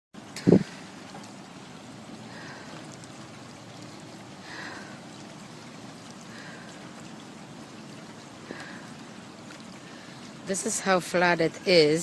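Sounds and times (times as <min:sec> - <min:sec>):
floodwater rushing: 0:00.2 - 0:12.0.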